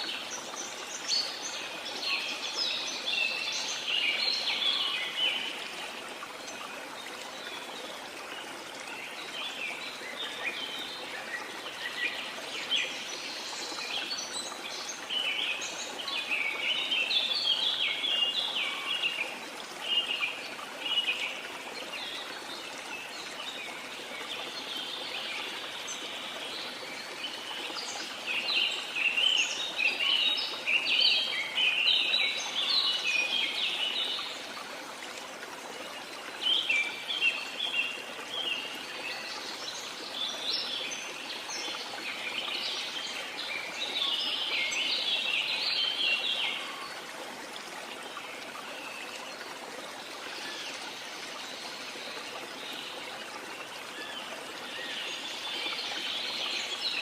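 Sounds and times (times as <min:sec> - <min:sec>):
rush of falling water: 0:00.0 - 0:57.0.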